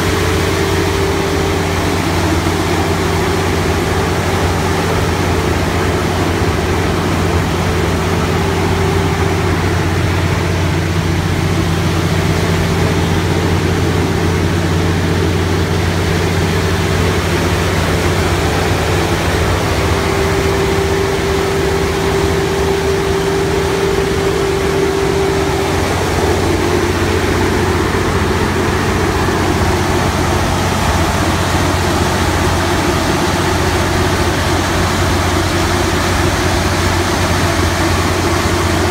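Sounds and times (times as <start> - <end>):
diesel generator running: 0.0 - 38.9
high engine whine: 0.0 - 38.9.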